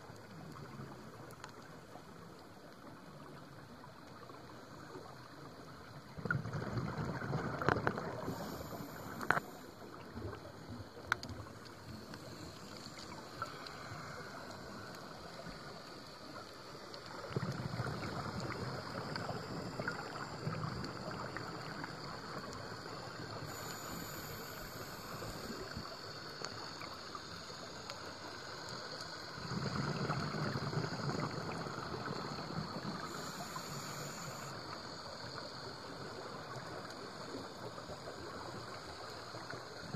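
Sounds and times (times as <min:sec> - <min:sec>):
regulator bubbles gurgling: 0:00.2 - 0:39.9.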